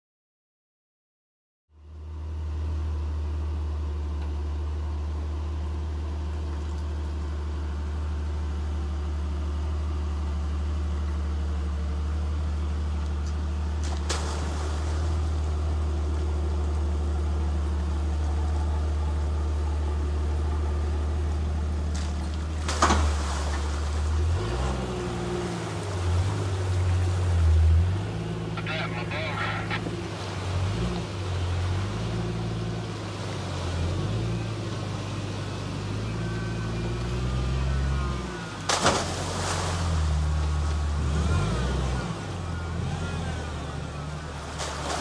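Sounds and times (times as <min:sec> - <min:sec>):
engine rumbling at low revs: 0:01.7 - 0:45.0.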